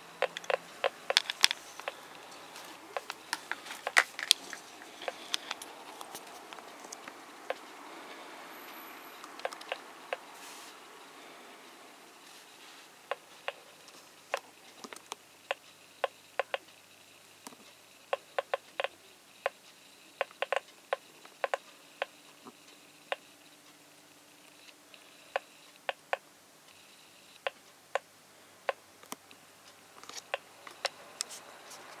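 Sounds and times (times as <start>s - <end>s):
geiger counter clicking: 0.0s - 7.8s, 8.7s - 10.3s, 13.1s - 23.5s, 24.4s - 28.1s, 28.7s - 31.3s.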